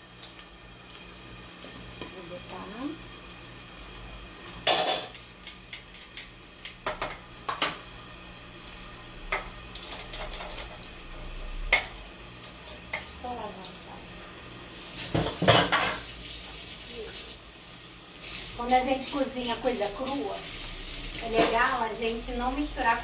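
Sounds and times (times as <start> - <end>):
chicken sizzling in a frying pan: 0.0 - 23.0.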